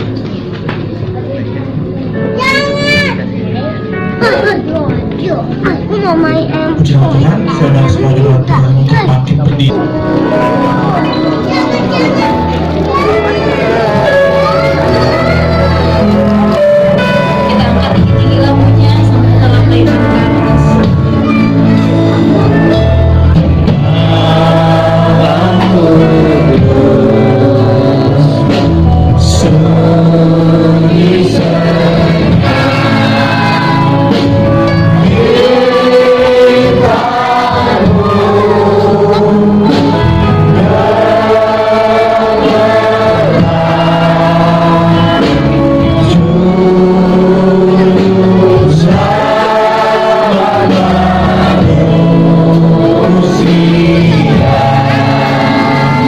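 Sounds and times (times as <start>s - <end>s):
instrumental accompaniment: 0.0s - 56.0s
congregation singing a hymn: 9.8s - 56.0s.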